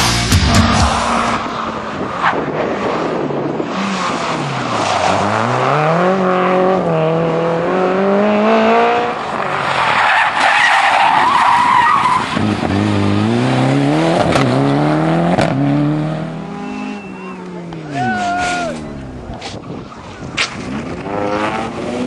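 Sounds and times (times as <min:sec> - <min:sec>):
rally car engine revving: 0:00.0 - 0:19.6, 0:20.4 - 0:22.0
rough tyre noise: 0:00.4 - 0:22.0.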